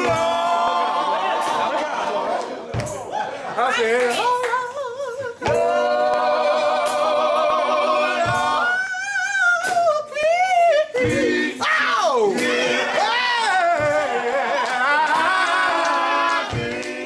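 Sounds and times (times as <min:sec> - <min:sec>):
person singing gospel: 0:00.0 - 0:17.0.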